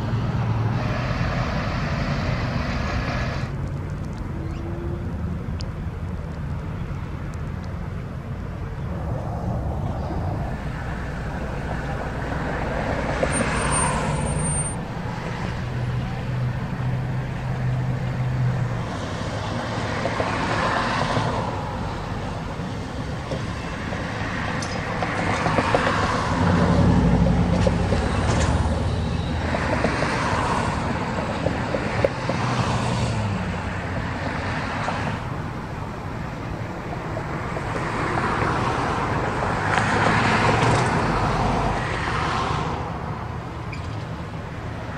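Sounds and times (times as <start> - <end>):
vehicles driving past: 0.0 - 44.9.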